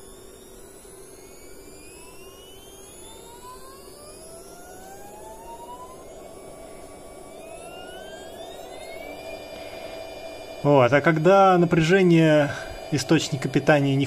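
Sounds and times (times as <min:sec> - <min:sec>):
stepper motor whining: 0:00.0 - 0:14.0.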